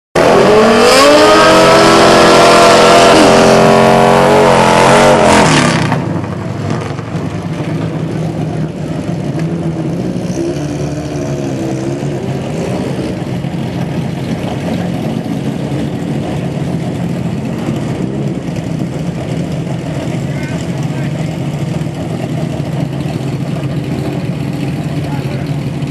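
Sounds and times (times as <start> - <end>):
distant engine revving: 0.2 - 25.9
motorcycle engine at full throttle: 0.2 - 25.9.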